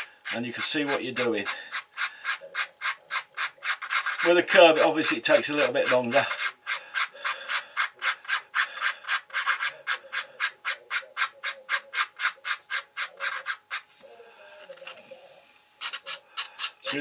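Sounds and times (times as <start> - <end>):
sanding stick rubbing card: 0.0 - 14.0, 14.6 - 17.0.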